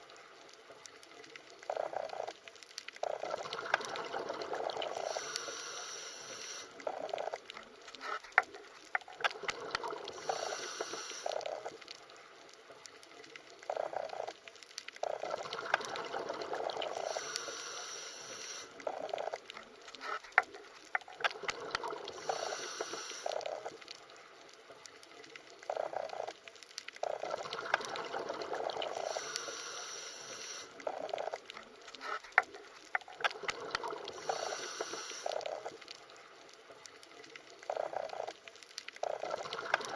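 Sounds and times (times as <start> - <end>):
underwater bubbling and gushing: 0.0 - 39.9.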